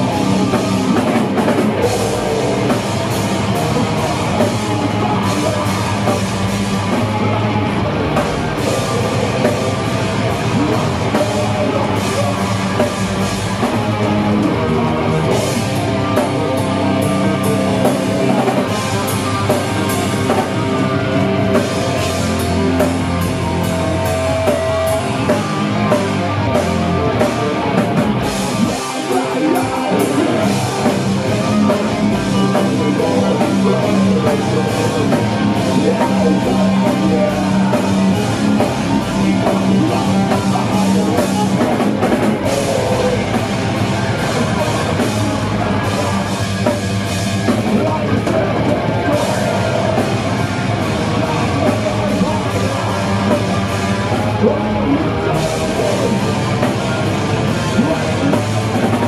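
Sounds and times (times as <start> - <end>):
drum kit: 0.0 - 59.0
electric guitars playing metal: 0.0 - 59.0.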